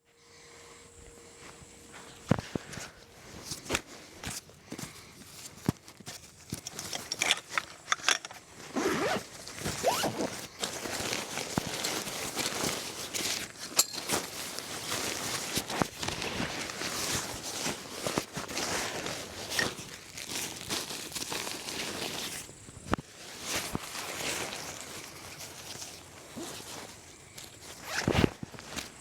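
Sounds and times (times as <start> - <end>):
rustling and rasping: 1.9 - 29.0.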